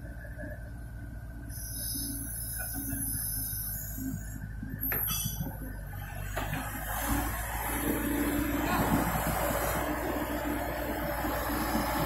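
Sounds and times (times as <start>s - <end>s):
diesel lorry engine running: 0.0s - 12.0s.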